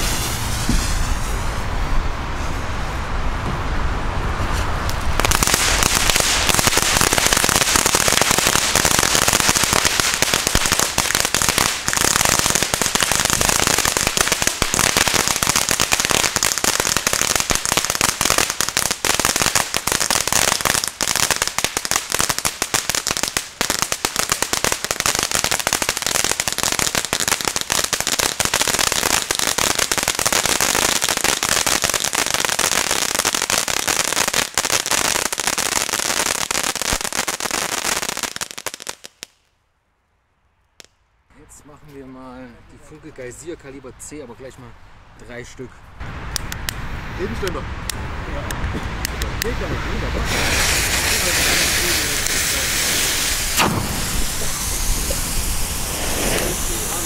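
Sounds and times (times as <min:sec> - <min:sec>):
fountain firework crackling: 0:00.0 - 0:39.4, 0:46.0 - 0:57.0.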